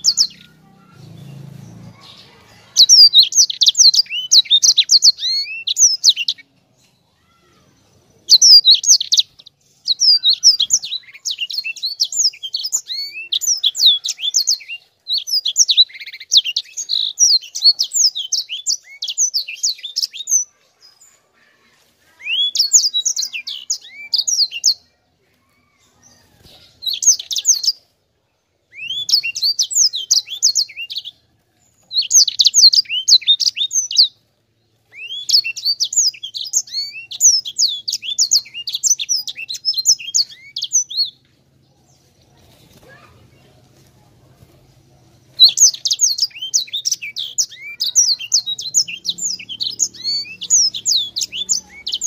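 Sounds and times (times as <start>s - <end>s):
finch singing trills: 0.0s - 21.1s, 22.1s - 24.9s, 26.0s - 27.8s, 28.7s - 34.2s, 34.8s - 41.2s, 45.2s - 52.0s.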